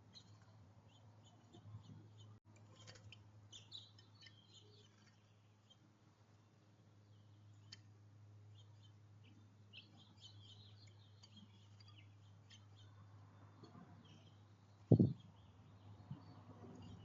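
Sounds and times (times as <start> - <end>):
low electrical hum: 0.0 - 17.0
small birds chirping: 0.0 - 17.0.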